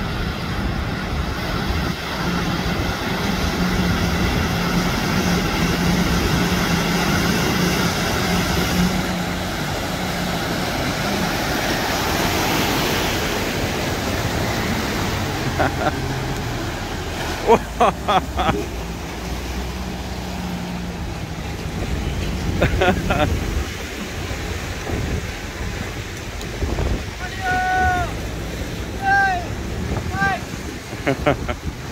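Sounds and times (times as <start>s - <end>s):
low engine hum: 0.0s - 31.9s
rushing splashing water: 0.0s - 31.9s.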